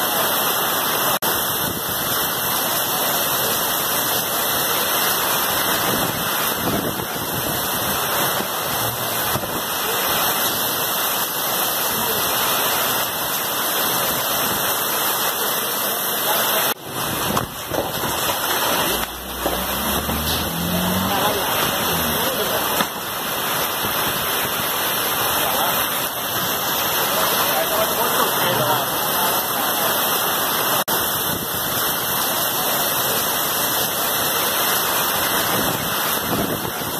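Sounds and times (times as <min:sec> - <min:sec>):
heavy pouring rain: 0:00.0 - 0:36.9.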